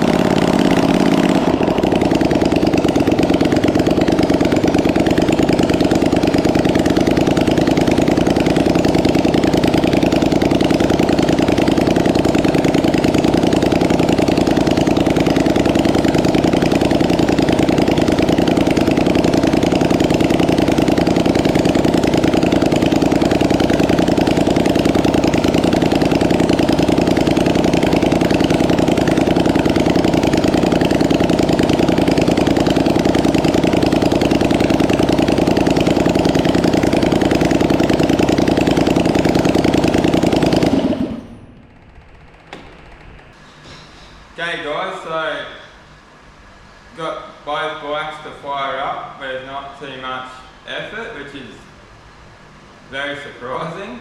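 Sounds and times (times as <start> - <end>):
quad engine idling: 0.0 - 43.4.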